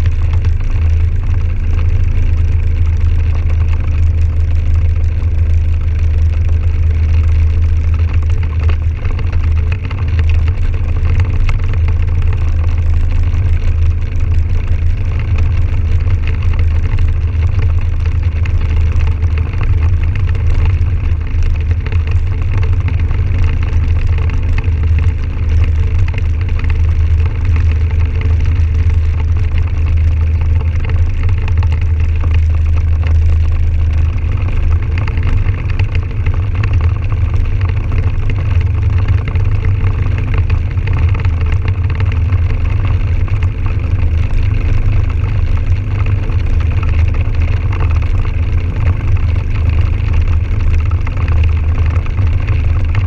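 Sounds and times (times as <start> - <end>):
atv engine running: 0.0 - 53.0
wind rumble on microphone: 0.0 - 53.0.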